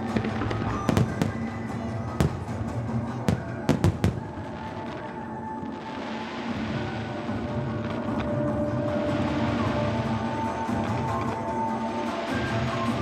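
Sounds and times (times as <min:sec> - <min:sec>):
fireworks bursting: 0:00.0 - 0:13.0
music: 0:00.0 - 0:13.0.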